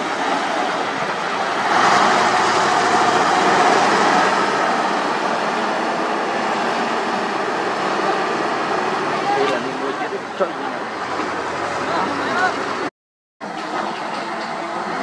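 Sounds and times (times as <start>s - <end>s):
truck diesel engine: 0.0s - 15.0s.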